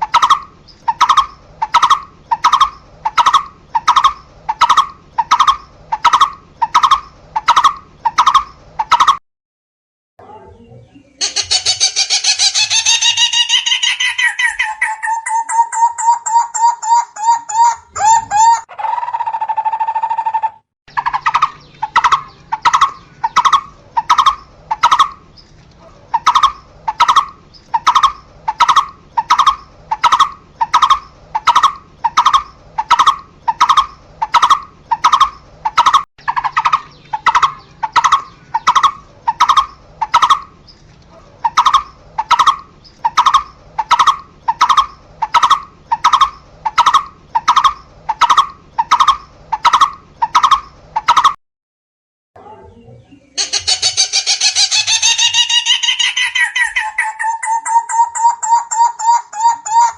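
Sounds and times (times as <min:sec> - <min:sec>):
barbet calling: 0:00.0 - 0:09.2, 0:11.1 - 0:25.2, 0:26.1 - 0:40.6, 0:41.4 - 0:51.4, 0:52.7 - 0:59.9.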